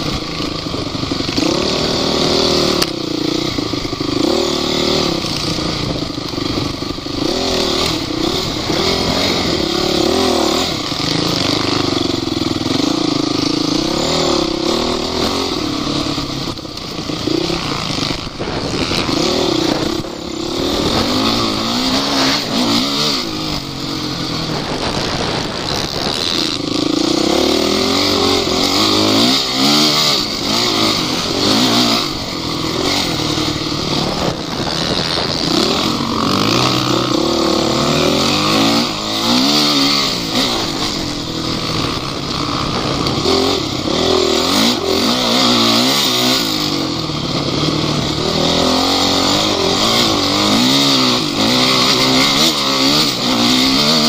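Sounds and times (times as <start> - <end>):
vehicle engine revving: 0.0 - 54.0.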